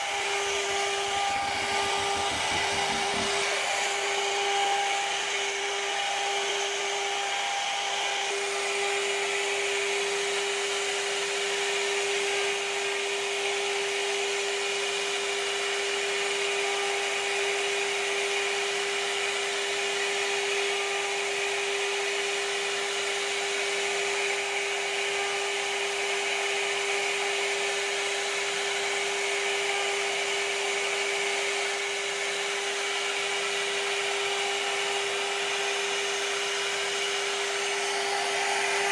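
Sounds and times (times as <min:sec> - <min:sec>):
router bit cutting wood: 0:00.0 - 0:38.9
router spindle whine: 0:00.0 - 0:38.9.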